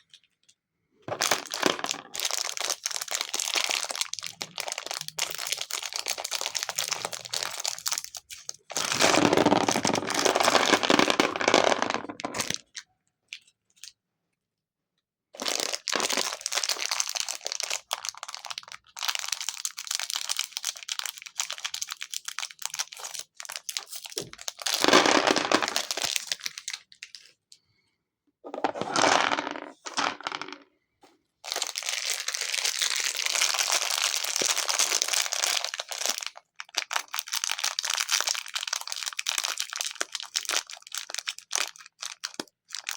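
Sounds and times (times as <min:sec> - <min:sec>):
packaging crinkling: 0:01.1 - 0:12.6, 0:15.4 - 0:27.3, 0:31.5 - 0:42.9.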